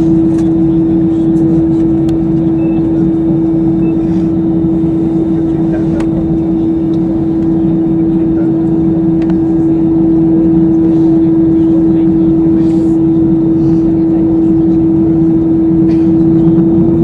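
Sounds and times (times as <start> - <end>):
airplane cabin engine roar: 0.0 - 17.0.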